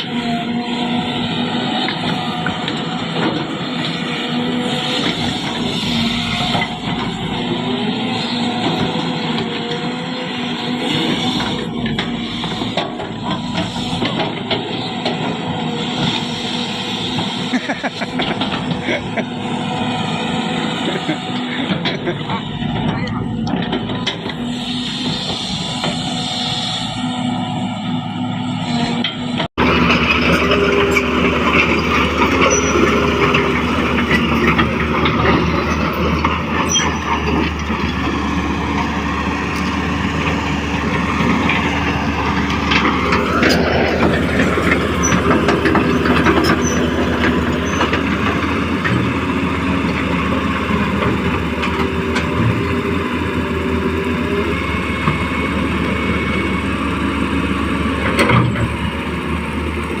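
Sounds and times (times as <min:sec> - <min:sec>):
motors and hydraulic pump whining: 0:00.0 - 1:00.0.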